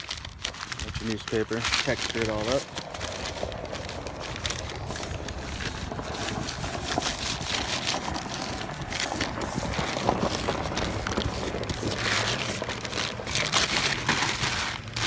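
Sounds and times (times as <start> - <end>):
newspaper crinkling: 0.0 - 15.0
wind rumble on microphone: 0.0 - 15.0.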